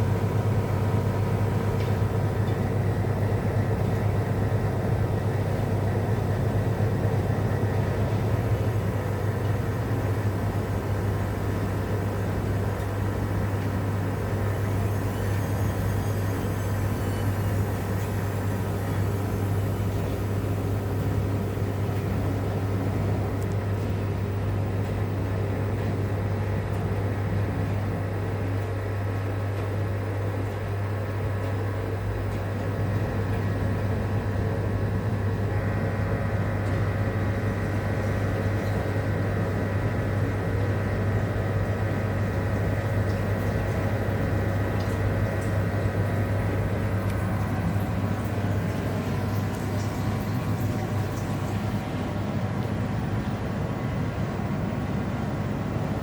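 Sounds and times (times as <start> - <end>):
washing machine low hum: 0.0 - 56.0
washing machine whining tones: 0.0 - 56.0.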